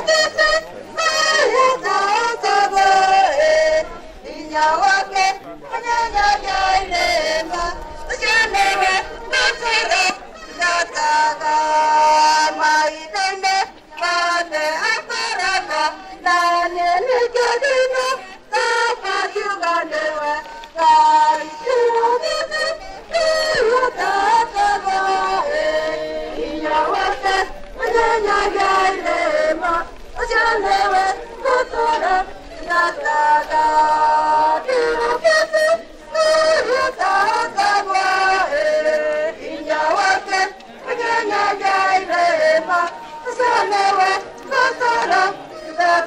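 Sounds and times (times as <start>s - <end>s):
voices singing: 0.0s - 46.0s.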